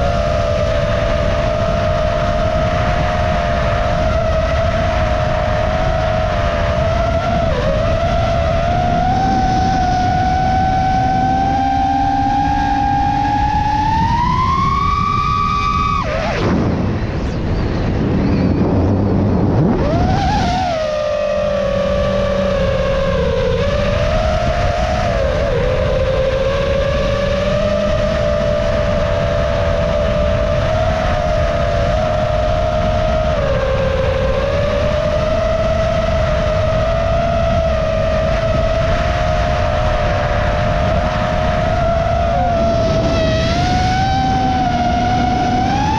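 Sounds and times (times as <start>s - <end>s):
drone motors whining: 0.0s - 45.9s
wind noise: 0.0s - 45.9s.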